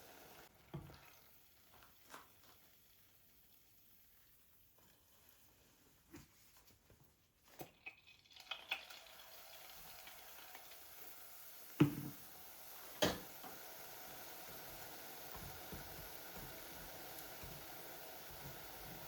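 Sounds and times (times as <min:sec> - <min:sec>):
faint hiss of cooking: 0:00.0 - 0:19.0.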